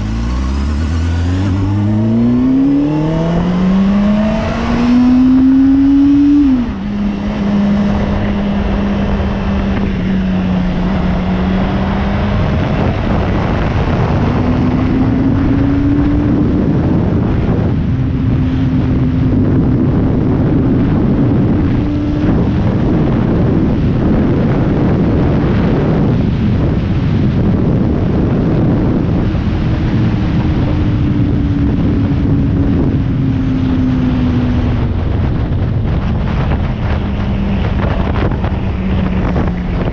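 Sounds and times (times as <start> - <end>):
heavy wind noise: 0.0 - 39.9
motorcycle engine: 0.0 - 39.9.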